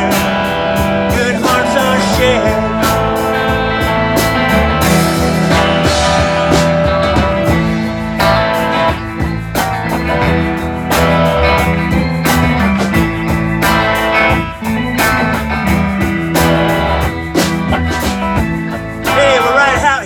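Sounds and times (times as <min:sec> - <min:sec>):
bass: 0:00.0 - 0:20.0
drum kit beat: 0:00.0 - 0:20.0
guitars: 0:00.0 - 0:20.0
live rock band playing: 0:00.0 - 0:20.0.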